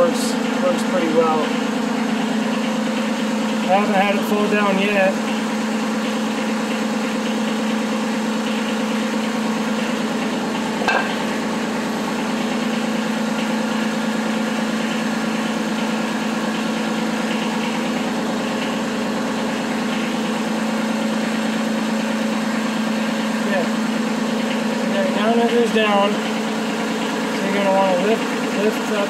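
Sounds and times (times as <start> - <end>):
diesel tractor engine idling: 0.0 - 29.0.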